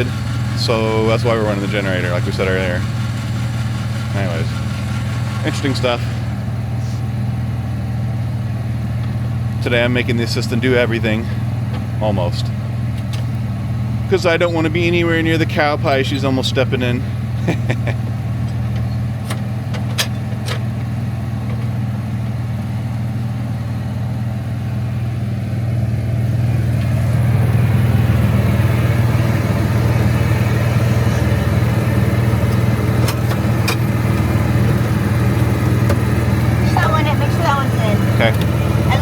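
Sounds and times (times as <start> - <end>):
engine humming: 0.0 - 39.0.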